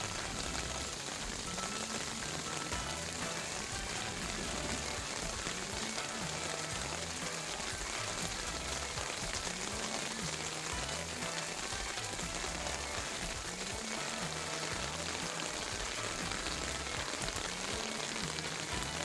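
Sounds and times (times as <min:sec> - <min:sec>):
heavy rain on leaves: 0:00.0 - 0:19.0
soft low music: 0:00.0 - 0:19.0.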